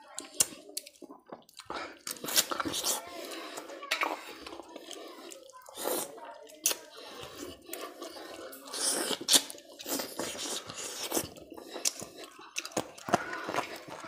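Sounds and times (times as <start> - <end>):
person chewing with smacking: 0.0 - 14.0.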